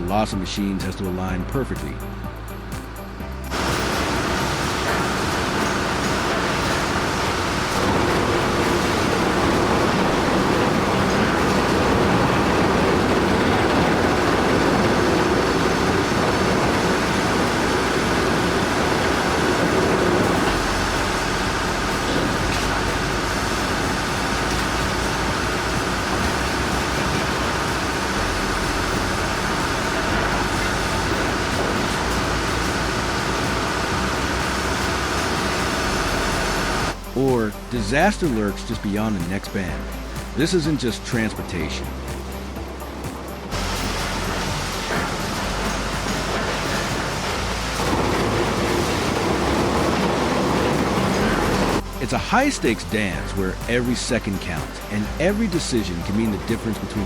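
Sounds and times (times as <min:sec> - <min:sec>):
heavy machinery running: 0:00.0 - 0:57.0.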